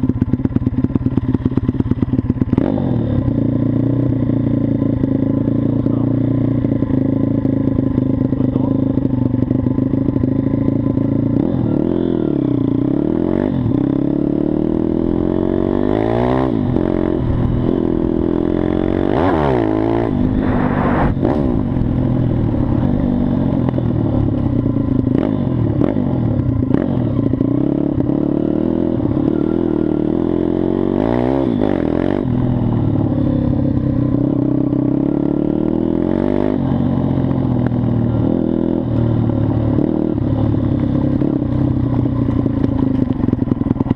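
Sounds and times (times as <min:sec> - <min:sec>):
small motorcycle engine revving: 0:00.0 - 0:43.9.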